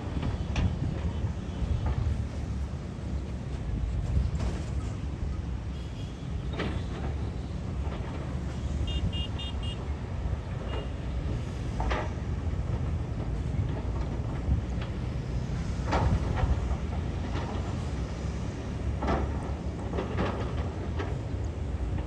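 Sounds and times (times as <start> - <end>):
diesel engines rumbling: 0.0 - 22.0.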